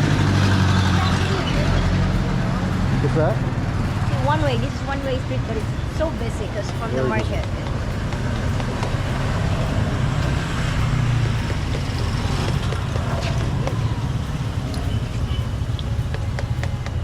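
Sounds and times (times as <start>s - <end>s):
low engine rumble: 0.0s - 17.0s
motor vehicles passing: 0.0s - 17.0s.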